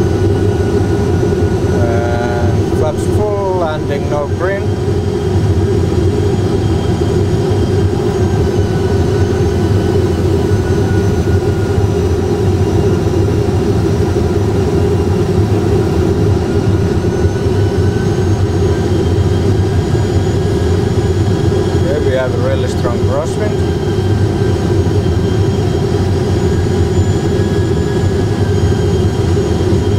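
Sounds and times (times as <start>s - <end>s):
cockpit engine and airflow rumble: 0.0s - 29.9s.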